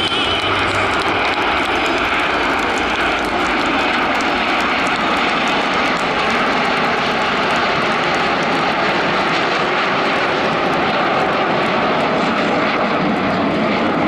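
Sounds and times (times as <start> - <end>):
jets passing overhead: 0.0 - 14.0.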